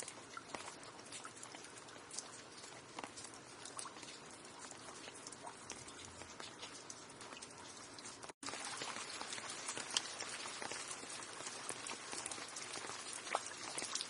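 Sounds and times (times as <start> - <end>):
raindrops ticking on hard surface: 0.0 - 14.0
steady rain hiss: 0.0 - 14.0.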